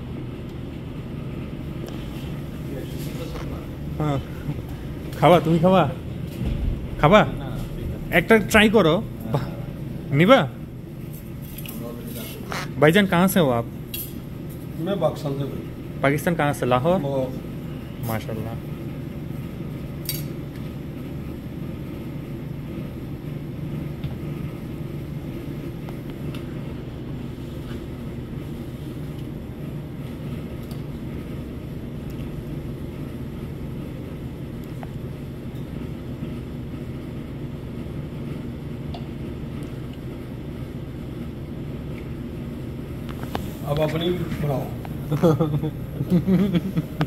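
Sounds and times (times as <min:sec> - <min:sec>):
low machinery hum: 0:00.0 - 0:47.0.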